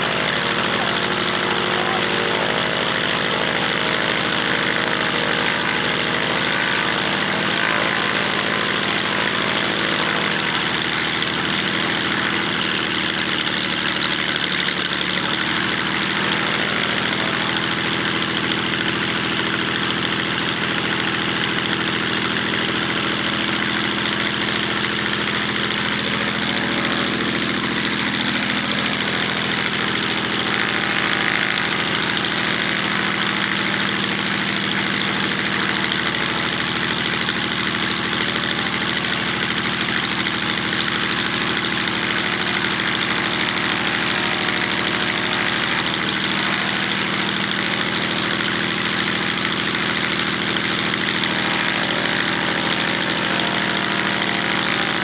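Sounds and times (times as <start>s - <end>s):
propeller aircraft engine idling: 0.0s - 55.0s.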